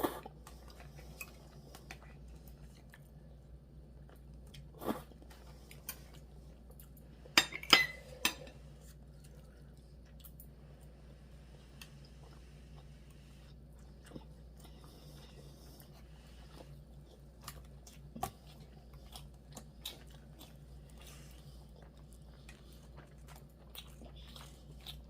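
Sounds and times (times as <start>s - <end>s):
quiet chewing with mouth clicks: 0.0s - 7.2s, 8.4s - 25.0s.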